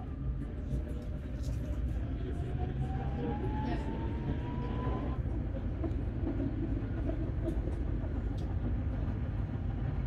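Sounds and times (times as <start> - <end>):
tram rumble: 0.0 - 10.0.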